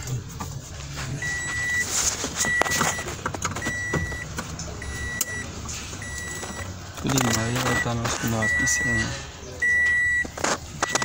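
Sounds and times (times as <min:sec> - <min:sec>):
car warning chime beeping: 0:01.2 - 0:11.0.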